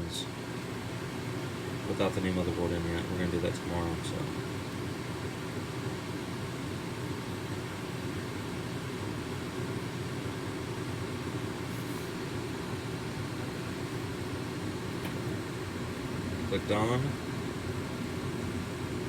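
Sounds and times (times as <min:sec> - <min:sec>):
furnace blower whirring: 0:00.0 - 0:19.0.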